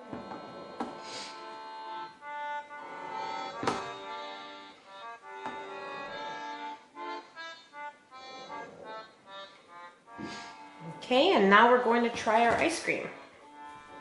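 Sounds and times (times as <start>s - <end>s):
music of sustained notes: 0.0s - 14.0s.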